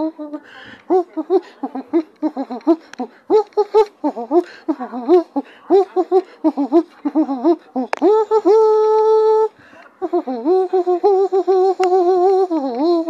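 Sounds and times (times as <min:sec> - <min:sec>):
high voice singing wordless syllables: 0:00.0 - 0:13.0.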